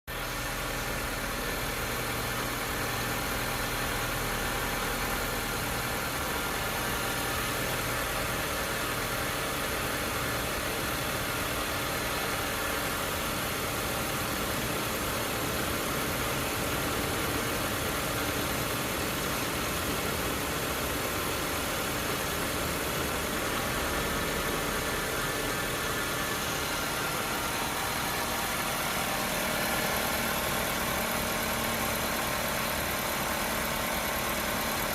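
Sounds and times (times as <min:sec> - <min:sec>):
petrol engine idling: 0:00.1 - 0:34.9.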